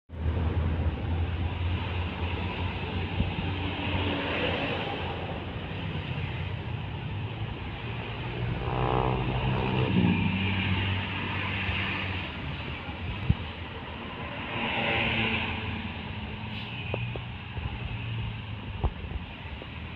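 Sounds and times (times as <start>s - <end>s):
heavy road traffic: 0.1s - 19.9s.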